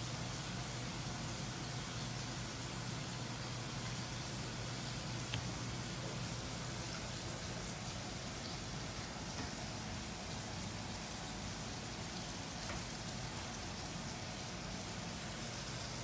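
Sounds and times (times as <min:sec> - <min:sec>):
room hiss: 0:00.0 - 0:16.0.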